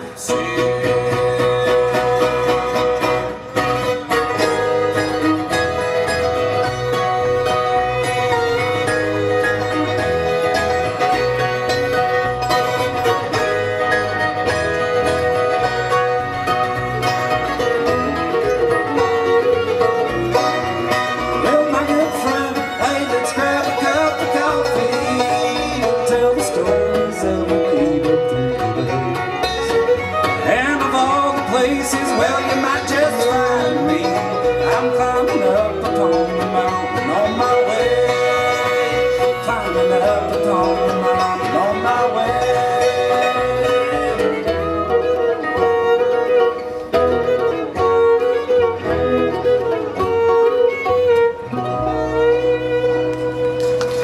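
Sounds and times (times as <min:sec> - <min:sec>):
banjo: 0:00.0 - 0:54.0
fiddle: 0:00.0 - 0:54.0
guitar: 0:00.0 - 0:54.0
long bending held notes: 0:00.0 - 0:54.0.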